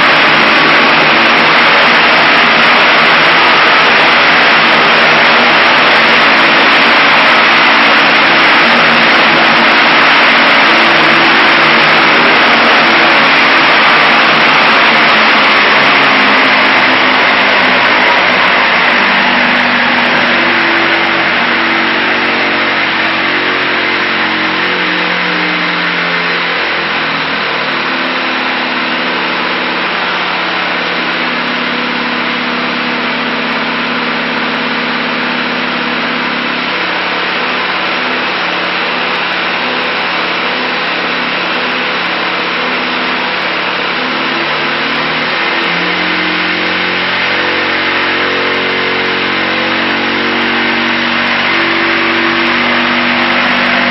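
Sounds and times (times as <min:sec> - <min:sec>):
aero engine running: 0:00.0 - 0:53.9.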